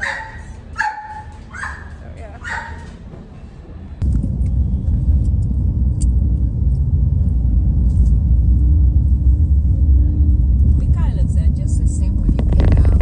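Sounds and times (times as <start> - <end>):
constant hum: 0.0 - 13.0
vehicle engine and road noise: 0.0 - 13.0.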